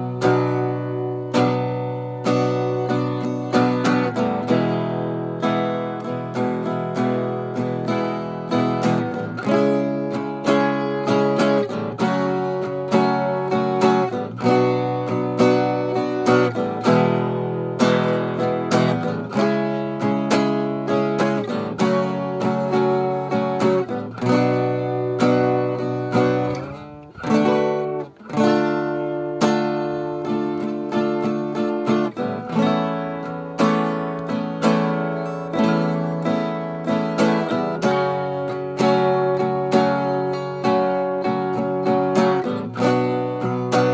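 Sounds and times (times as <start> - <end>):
strummed acoustic guitar: 0.0 - 43.9.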